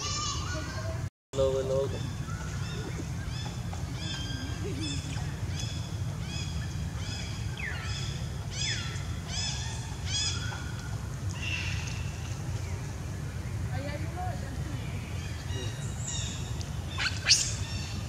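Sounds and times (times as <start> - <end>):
steady low rumble: 0.8 - 18.0.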